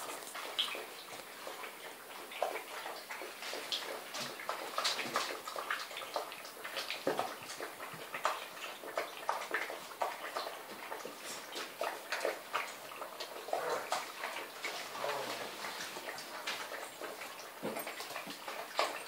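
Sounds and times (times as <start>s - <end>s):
puppies lapping and chewing food: 0.0s - 19.0s.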